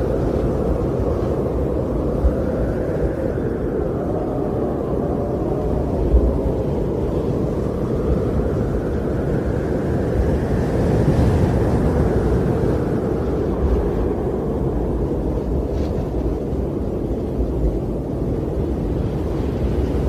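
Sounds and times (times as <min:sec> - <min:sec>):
strong wind with deep rumble: 0:00.0 - 0:20.0.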